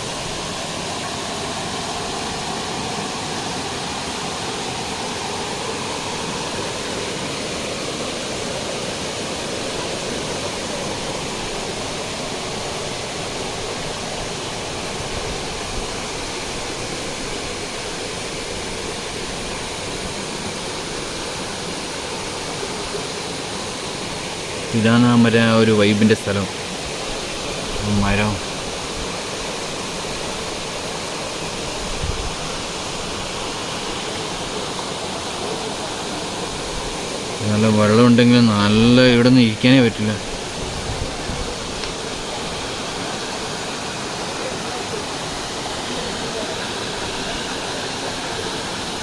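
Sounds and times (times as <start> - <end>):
waterfall pouring over rocks: 0.0 - 49.0.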